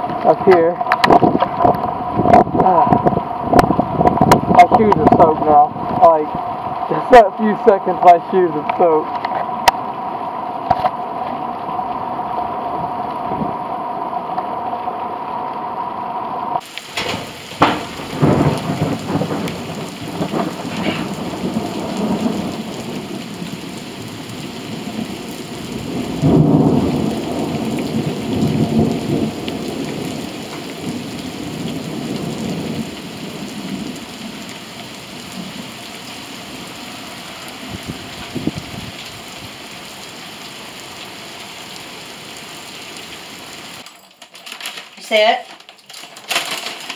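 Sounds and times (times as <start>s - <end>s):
thunder rumbling: 0.0s - 39.6s
rain falling on pavement: 0.0s - 46.9s.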